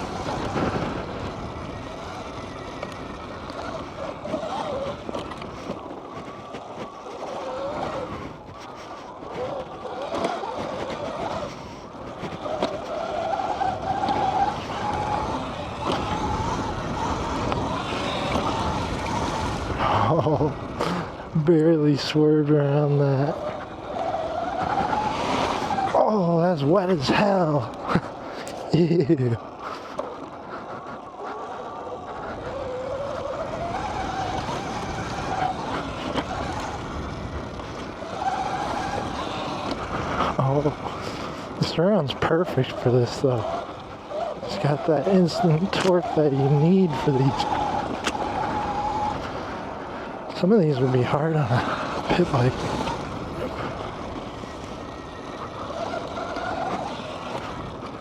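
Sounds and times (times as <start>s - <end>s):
electric motor and chain whine: 0.0s - 58.0s
rumble of rough ground: 0.0s - 58.0s
tyre and wind noise: 0.0s - 58.0s.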